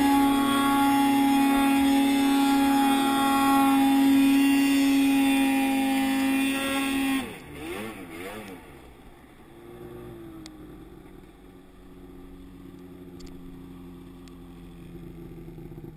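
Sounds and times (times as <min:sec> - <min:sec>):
snowmobile engine revving and idling: 0:00.0 - 0:15.9.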